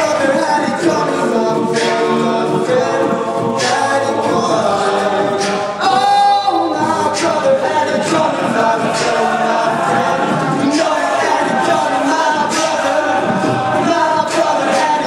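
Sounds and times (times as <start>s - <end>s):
male choir singing a cappella: 0.0s - 15.0s.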